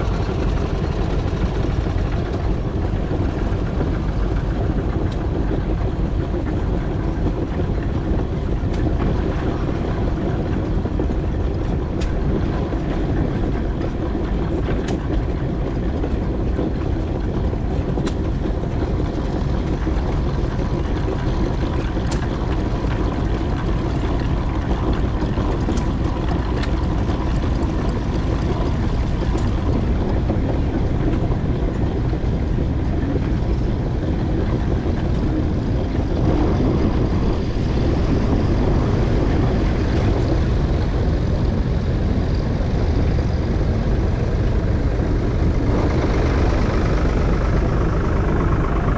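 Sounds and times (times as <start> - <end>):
steam engine low rumble: 0.0 - 48.9.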